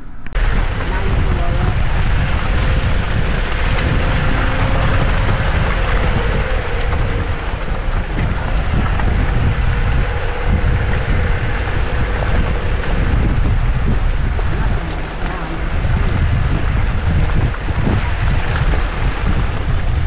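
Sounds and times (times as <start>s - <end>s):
engine and tyre rumble: 0.0s - 20.0s.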